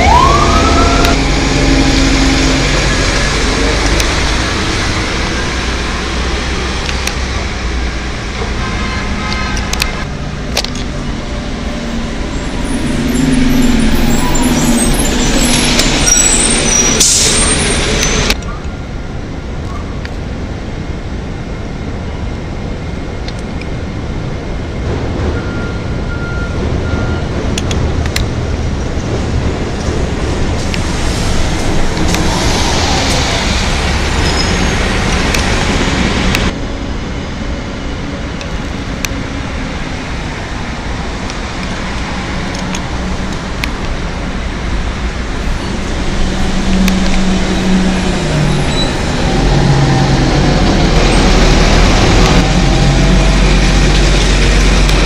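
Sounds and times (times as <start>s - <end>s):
buses passing: 0.0s - 55.0s
street traffic: 0.0s - 55.0s.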